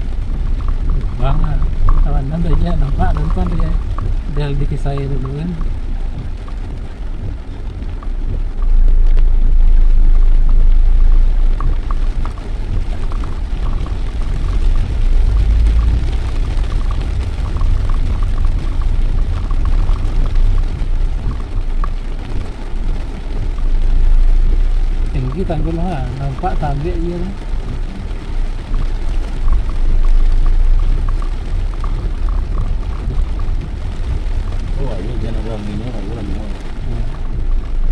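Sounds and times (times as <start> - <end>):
rain pattering: 0.0 - 37.9
vehicle rumbling: 0.0 - 37.9.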